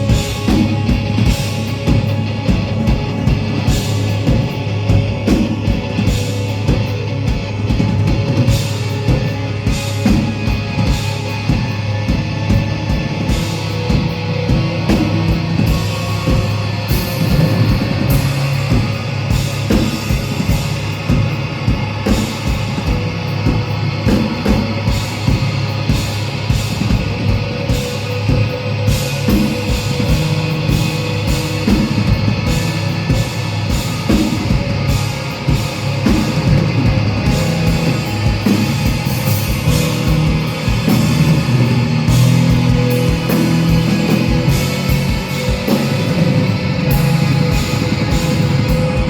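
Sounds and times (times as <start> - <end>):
drum kit fast beat: 0.0 - 49.0
heavy guitar and bass: 0.0 - 49.0.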